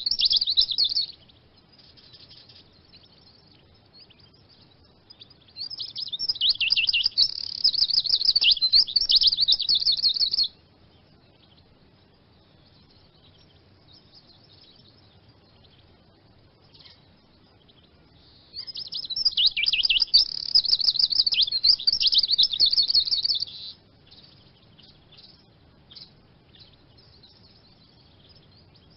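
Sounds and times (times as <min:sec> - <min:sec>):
bird twittering: 0:00.0 - 0:28.9
faint bird chirps: 0:00.0 - 0:28.9.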